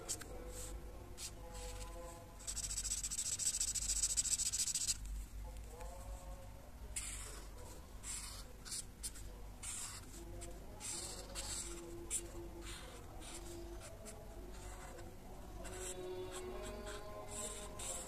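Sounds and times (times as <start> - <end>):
marker scratching on paper: 0.0 - 5.0, 7.0 - 18.0.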